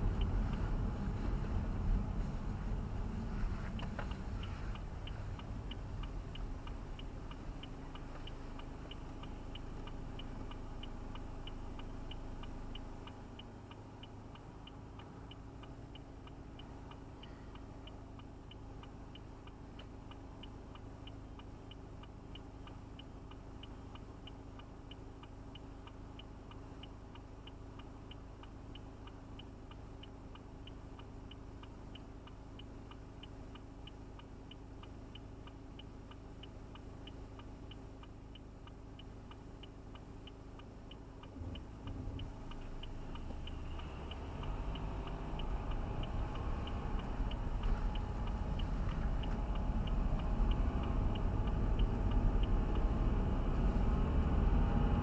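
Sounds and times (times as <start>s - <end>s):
car engine hum: 0.0s - 55.0s
road noise: 0.0s - 55.0s
turn signal ticking: 0.0s - 55.0s.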